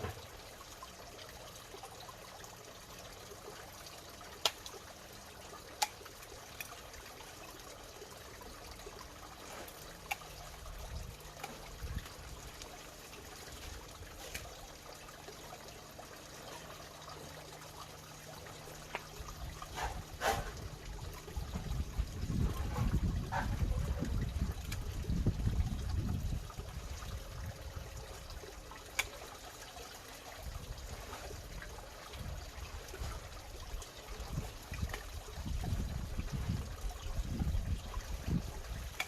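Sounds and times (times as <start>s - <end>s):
water bubbling and trickling: 0.0s - 39.0s.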